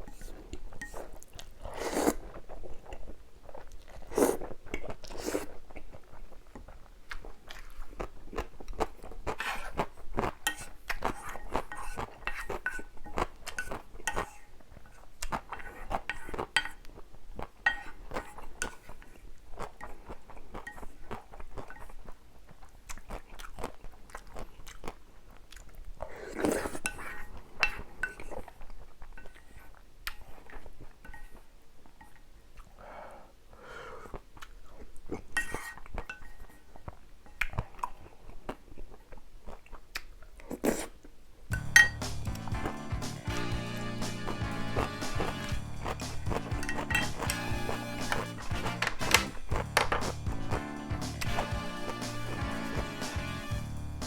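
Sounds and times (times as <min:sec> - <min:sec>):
close chewing of noodles: 0:00.3 - 0:30.9, 0:36.7 - 0:54.0.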